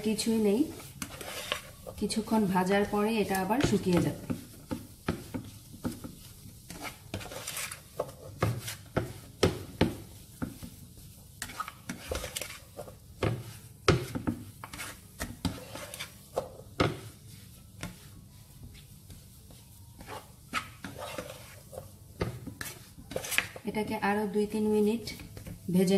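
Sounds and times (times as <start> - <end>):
spatula scraping a pan: 0.0 - 25.9.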